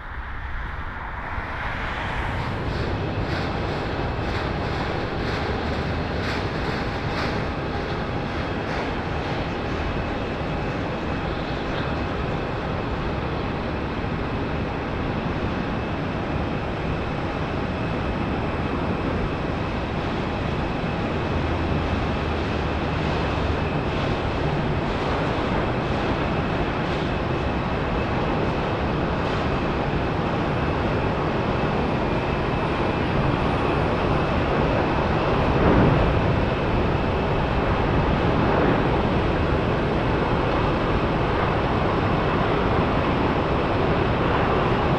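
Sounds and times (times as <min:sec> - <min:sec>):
jet engines rushing: 0:00.0 - 0:44.9
thin jet engine whine: 0:00.0 - 0:44.9.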